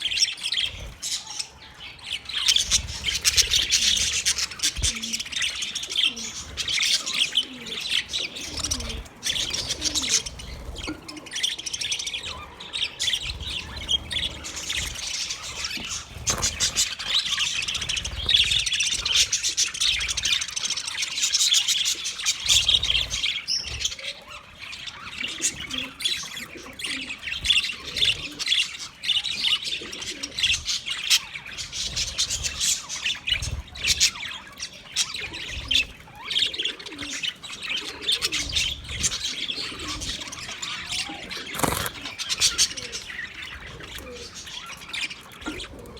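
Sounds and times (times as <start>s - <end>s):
budgerigars chirping: 0.0s - 45.9s.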